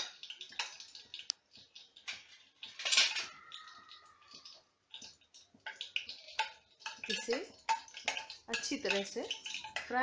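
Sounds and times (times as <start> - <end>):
spices crackling in hot oil: 0.0 - 10.0.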